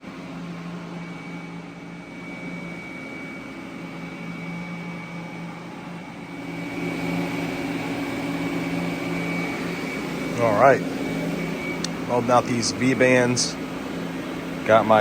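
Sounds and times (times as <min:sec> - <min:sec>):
machine hum: 0:00.0 - 0:15.0
faint high whine: 0:00.2 - 0:15.0.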